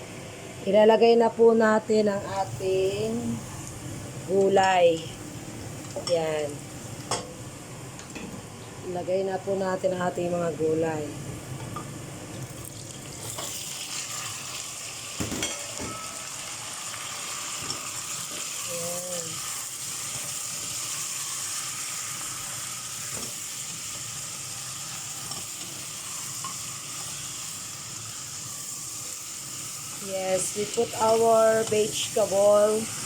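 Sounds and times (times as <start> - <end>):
vegetables sizzling in oil: 1.8 - 8.1, 11.1 - 33.0.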